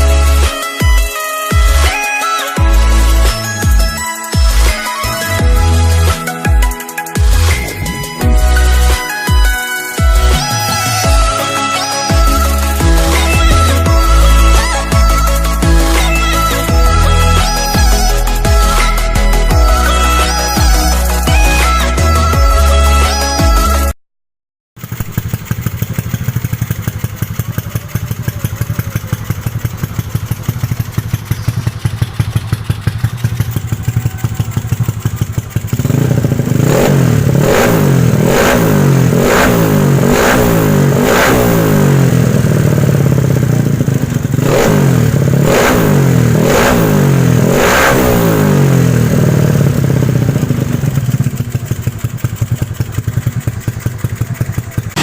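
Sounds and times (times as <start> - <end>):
scooter engine revving: 0.0 - 24.0, 24.8 - 55.0.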